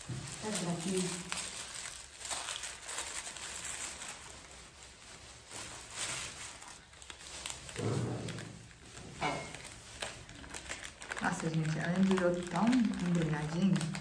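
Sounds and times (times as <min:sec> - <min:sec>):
gift wrapping paper rustling: 0:00.0 - 0:14.0.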